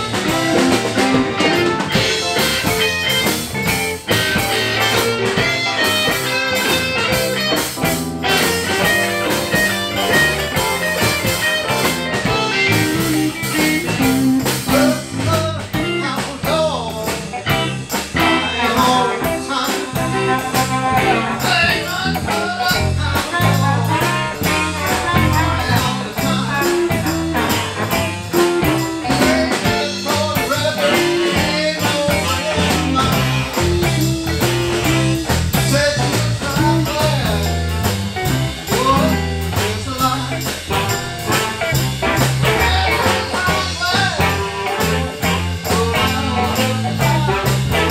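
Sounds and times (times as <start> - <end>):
harmonica: 0.0 - 16.0, 17.5 - 37.4, 38.8 - 47.9
blues band playing: 0.0 - 47.9.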